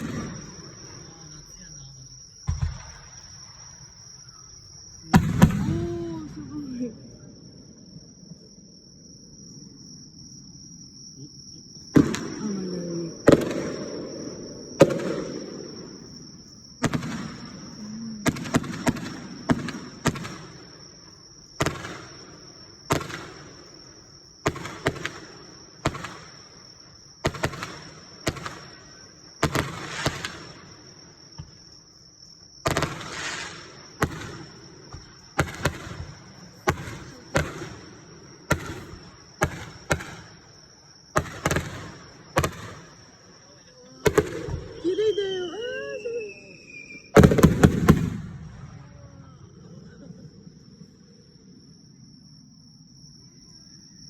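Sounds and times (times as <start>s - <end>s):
fireworks bursting with bangs: 0.0s - 6.9s, 11.6s - 43.4s, 44.0s - 49.0s
crackling fireworks burst: 0.0s - 9.8s, 11.2s - 43.4s, 44.0s - 51.0s.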